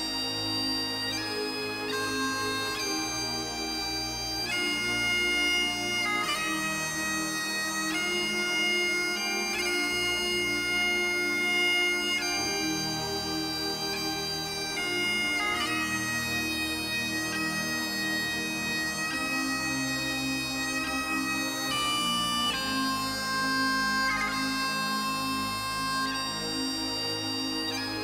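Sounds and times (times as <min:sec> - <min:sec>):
bagpipe playing: 0:00.0 - 0:28.0.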